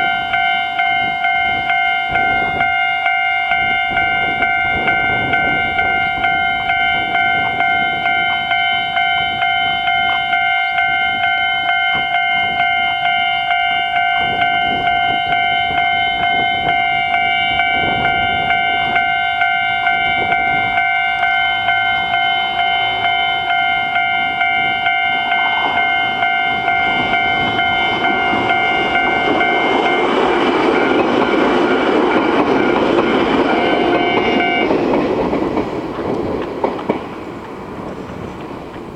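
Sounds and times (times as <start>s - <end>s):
level crossing warning bell: 0.0s - 35.8s
train rumble and wheel clatter: 0.0s - 38.9s.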